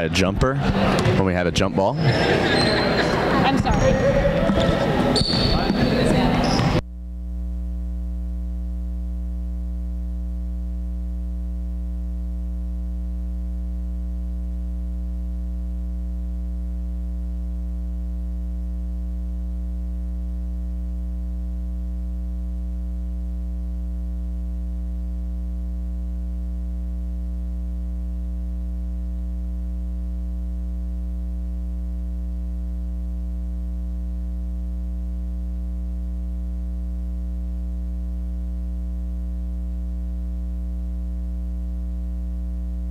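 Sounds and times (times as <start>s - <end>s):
electrical mains hum: 0.0s - 42.9s.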